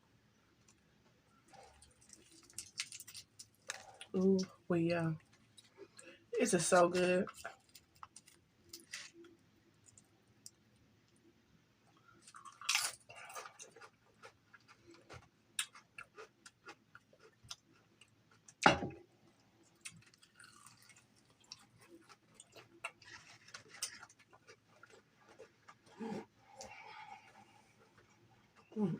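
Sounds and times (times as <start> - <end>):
chewing and crunching food: 0.5 - 28.9.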